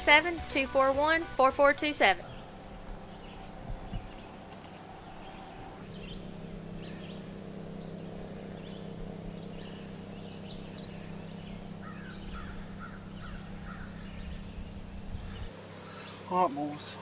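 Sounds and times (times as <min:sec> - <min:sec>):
songbirds chirping: 0:00.0 - 0:17.0
steady low hum: 0:00.0 - 0:17.0.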